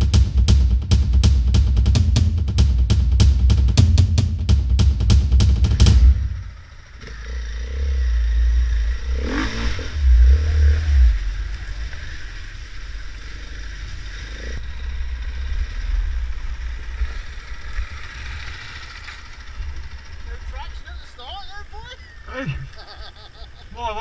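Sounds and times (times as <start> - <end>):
dirt bike engine rumbling: 0.0 - 24.0.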